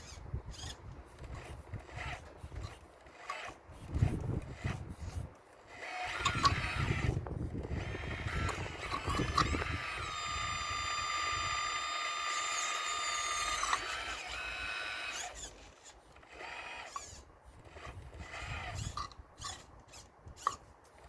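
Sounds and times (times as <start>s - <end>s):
hydraulic pump whining: 0.0s - 21.0s.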